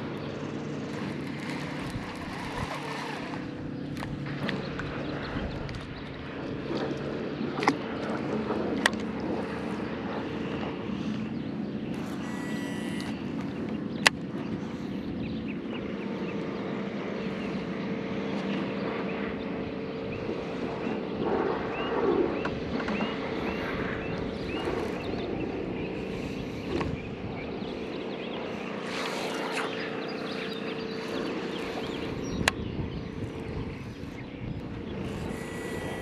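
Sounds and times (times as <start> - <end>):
motor drone: 0.0 - 36.0.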